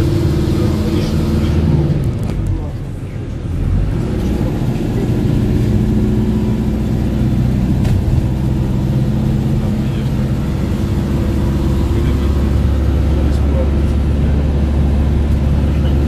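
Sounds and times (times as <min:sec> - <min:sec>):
low road rumble: 0:00.0 - 0:16.0
vehicle engine running steadily: 0:00.0 - 0:16.0.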